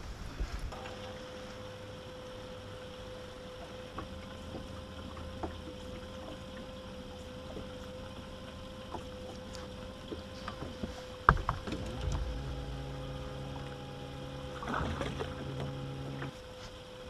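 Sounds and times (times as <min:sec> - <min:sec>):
electric motor humming: 0:00.8 - 0:17.0.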